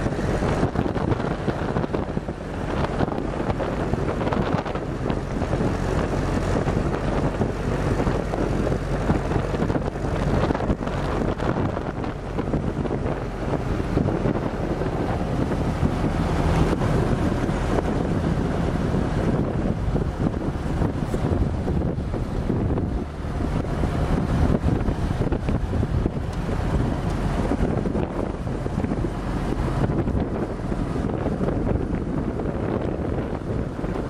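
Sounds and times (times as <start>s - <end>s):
jeep engine running: 0.0s - 34.0s
wind buffeting microphone: 0.0s - 34.0s.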